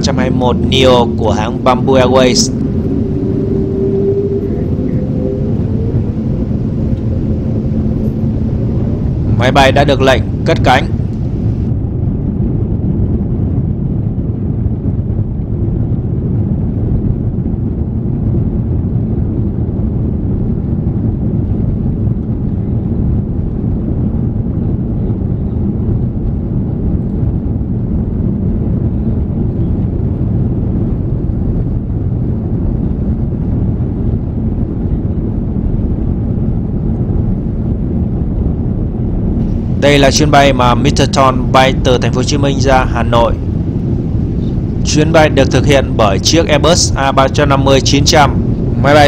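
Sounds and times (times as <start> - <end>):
jet engines rumbling in cabin: 0.0 - 49.0.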